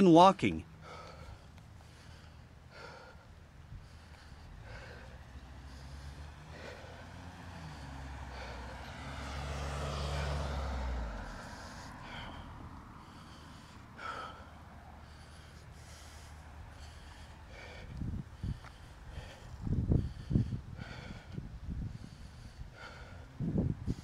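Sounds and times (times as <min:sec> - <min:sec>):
heavy breathing: 0:00.6 - 0:24.0
motor vehicle passing: 0:00.6 - 0:24.0.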